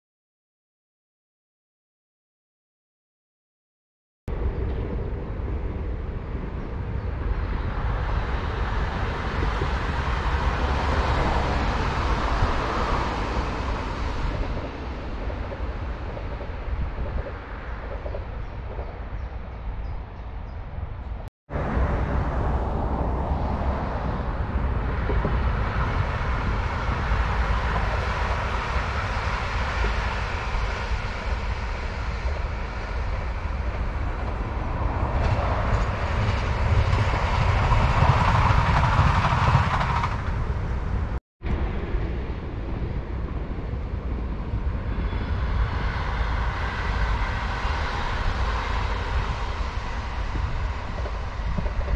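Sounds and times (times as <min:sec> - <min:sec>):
electric train passing: 0:04.3 - 0:51.9
train approaching: 0:04.3 - 0:51.9.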